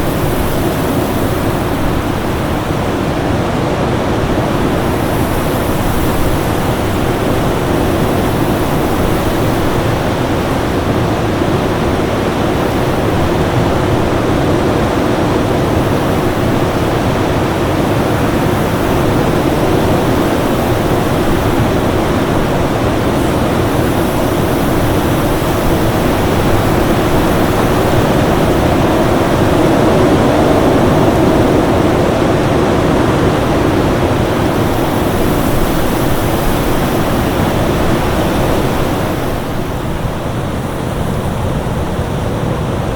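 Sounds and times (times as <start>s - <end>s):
storm wind roaring: 0.0s - 42.9s.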